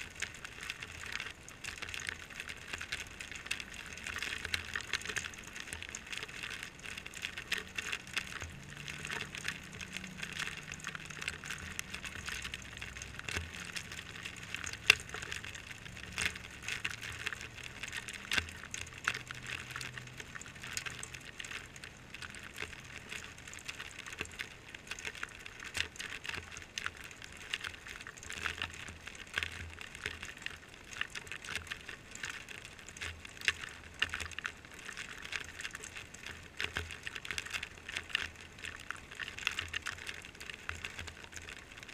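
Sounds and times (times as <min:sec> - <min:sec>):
rain falling: 0:00.0 - 0:41.9
raindrops tapping camera: 0:00.0 - 0:41.9
water trickling onto concrete: 0:00.0 - 0:41.9.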